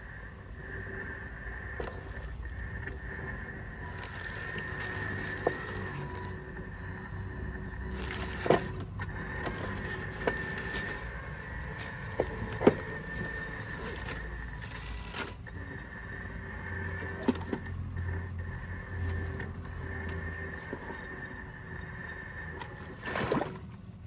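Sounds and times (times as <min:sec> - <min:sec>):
small electric motors whining: 0:00.0 - 0:24.0.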